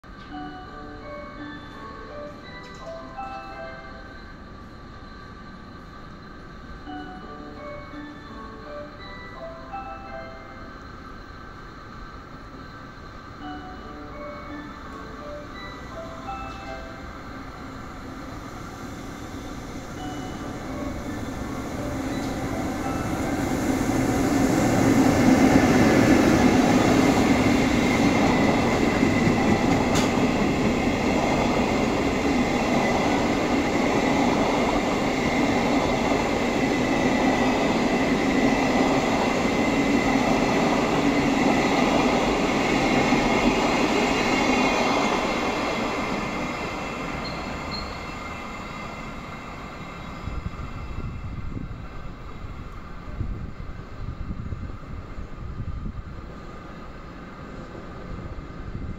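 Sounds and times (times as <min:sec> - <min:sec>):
train wheels rumbling on track: 0:11.0 - 0:58.9.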